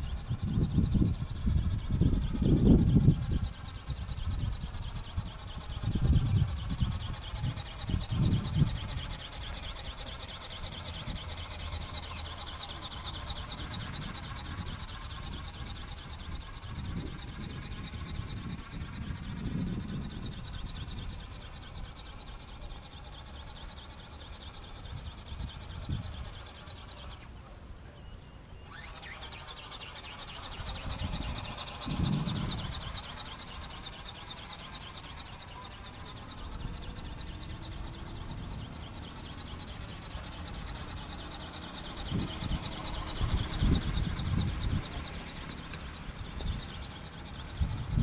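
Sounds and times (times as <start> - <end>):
wind on microphone: 0.0 - 9.8, 13.2 - 22.4, 24.8 - 26.9, 30.3 - 48.0
ornithopter buzzing with flutter: 0.0 - 48.0.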